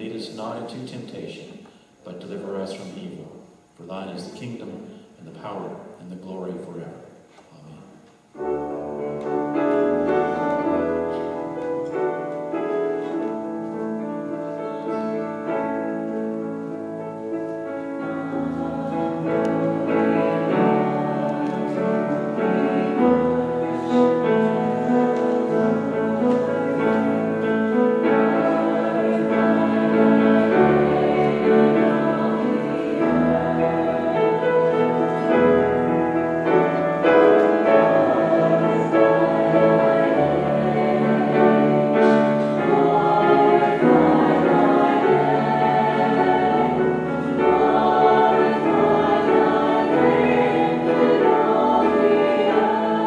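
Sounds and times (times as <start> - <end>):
slow classical piano music: 8.2 - 53.0.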